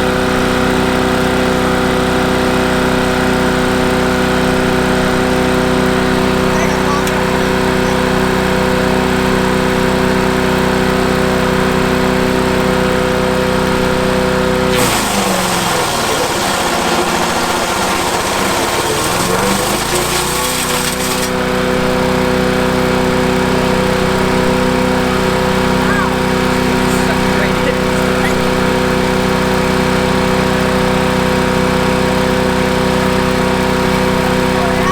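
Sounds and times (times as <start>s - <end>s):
gas engine running: 0.0s - 34.9s
wood chipper chipping branch: 0.0s - 34.9s.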